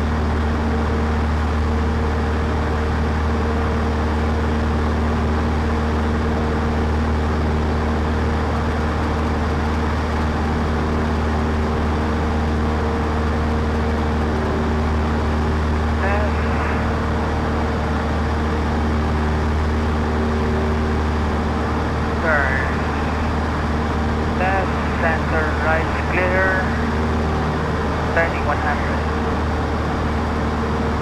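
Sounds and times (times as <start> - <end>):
small plane engine and propeller droning: 0.0 - 31.0.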